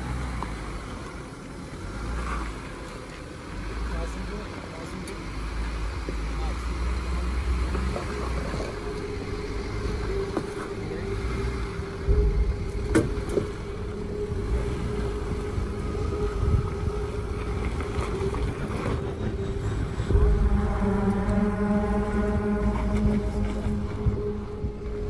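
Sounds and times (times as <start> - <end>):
truck engine droning at a crawl: 0.0 - 25.0.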